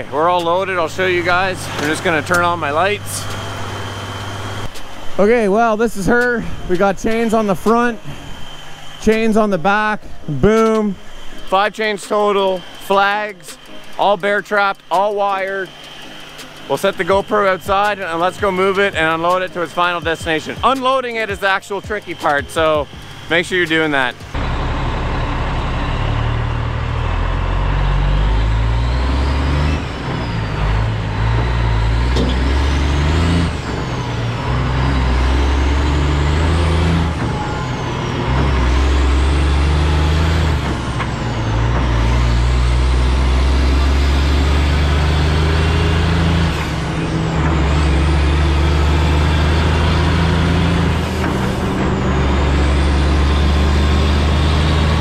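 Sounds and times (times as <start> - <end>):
high engine whine: 0.0 - 55.0
truck diesel engine shifting gears: 0.0 - 55.0.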